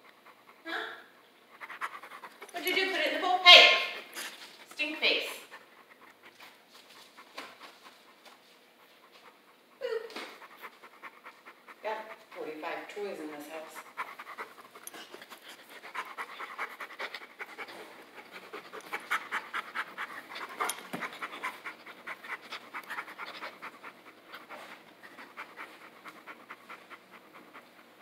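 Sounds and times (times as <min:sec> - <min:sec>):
dog panting rapidly: 0:00.0 - 0:28.0.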